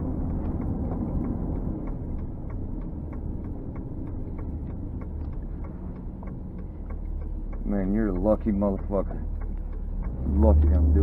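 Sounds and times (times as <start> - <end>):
car indicator clicking: 0.0 - 11.0
engine and road rumble: 0.0 - 11.0.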